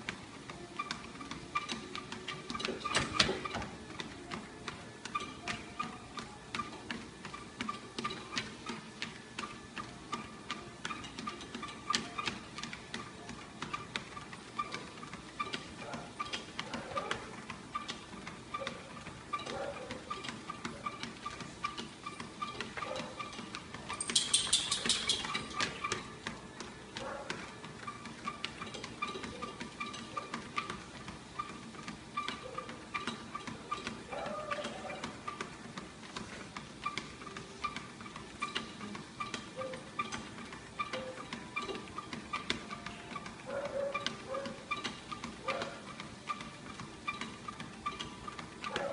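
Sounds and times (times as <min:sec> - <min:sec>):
treadmill rhythmic ticking: 0:00.0 - 0:48.9.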